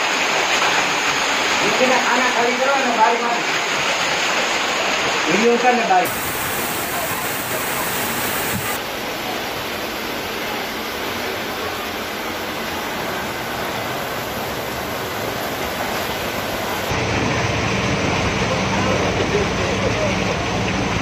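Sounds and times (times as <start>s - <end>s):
heavy rain: 0.0s - 21.0s
running floodwater: 0.0s - 21.0s.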